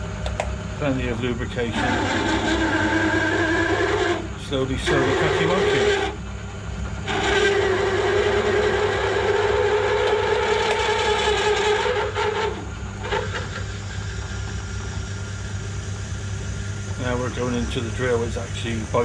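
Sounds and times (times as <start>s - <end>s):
lathe motor hum: 0.0s - 19.0s
drill bit cutting steel: 0.9s - 6.2s, 7.0s - 19.0s.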